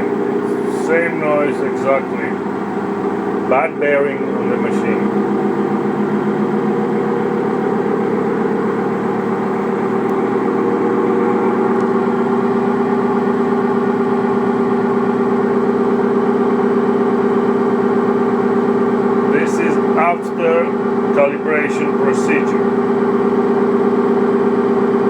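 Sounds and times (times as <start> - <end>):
washing machine drum spinning: 0.0 - 25.0.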